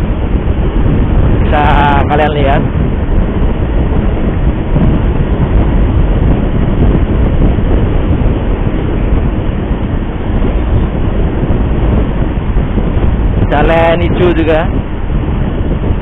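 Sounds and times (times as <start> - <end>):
vehicle road and wind noise: 0.0 - 16.0.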